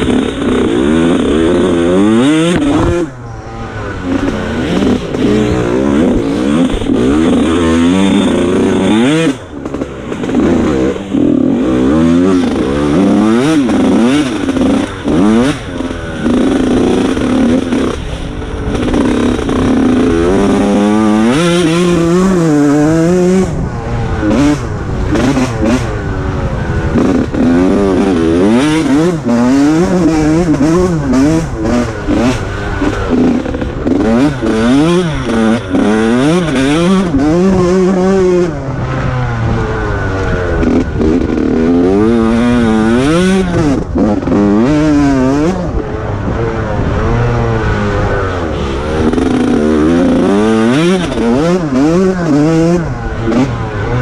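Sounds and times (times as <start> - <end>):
off-road engine revving: 0.0 - 54.0.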